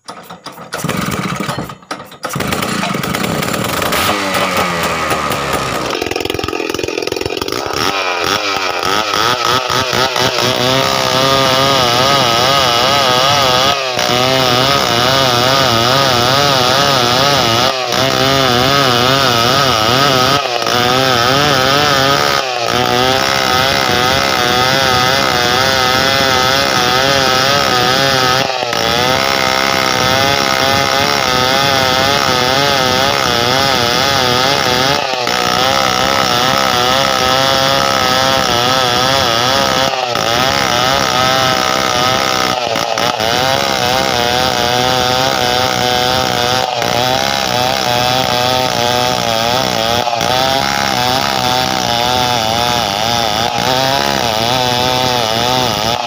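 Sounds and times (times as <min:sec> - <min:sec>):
chainsaw cutting through log: 0:00.0 - 0:56.0
chainsaw pull-started: 0:00.0 - 0:56.0.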